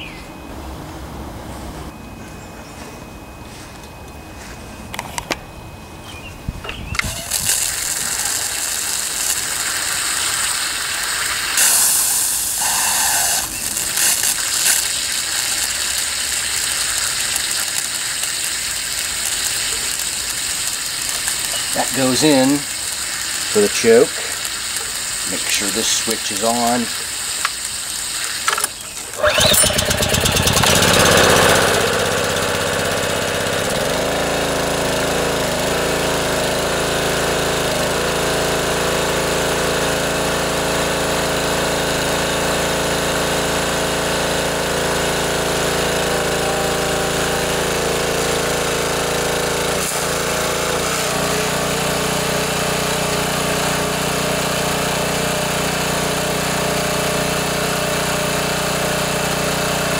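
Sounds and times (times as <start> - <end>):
small engine pull-started and running: 6.7 - 59.9.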